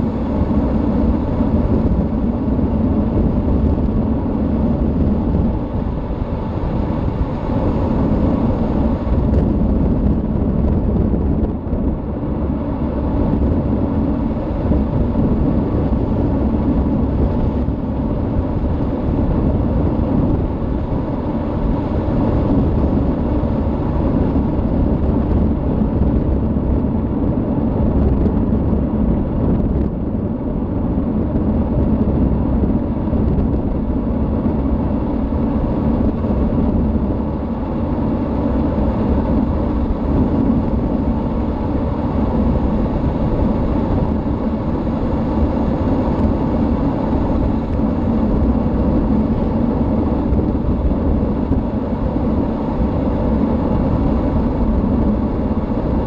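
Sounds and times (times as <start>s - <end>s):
car driving fast on asphalt: 0.0s - 56.0s.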